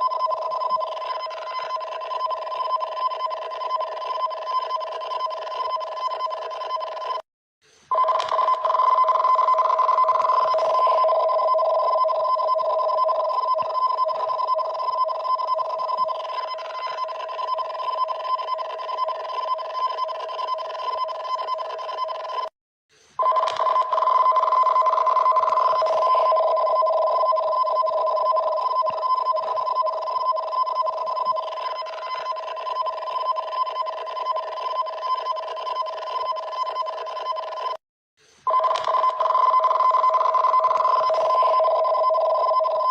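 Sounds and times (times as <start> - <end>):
two-tone emergency alert: 0.0 - 7.2, 7.9 - 22.5, 23.2 - 37.8, 38.5 - 42.9.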